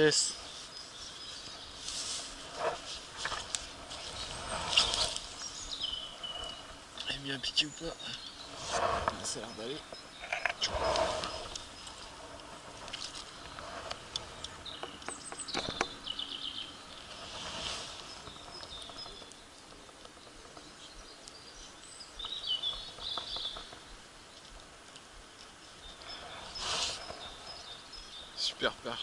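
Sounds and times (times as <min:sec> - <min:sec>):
outdoor background noise: 0:00.0 - 0:29.0
small birds chirping: 0:00.0 - 0:29.0.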